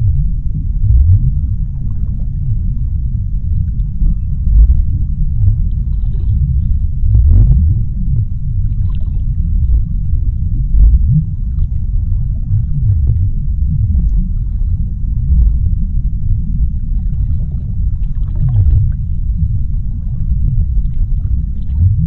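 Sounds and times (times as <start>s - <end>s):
underwater low rumble: 0.0s - 22.0s.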